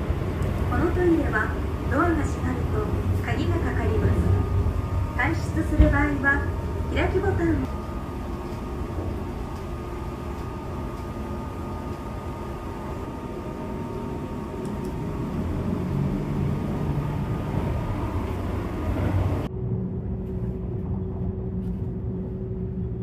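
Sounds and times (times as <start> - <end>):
faint steady whine: 0.0 - 23.0
train running rumble: 0.0 - 23.0.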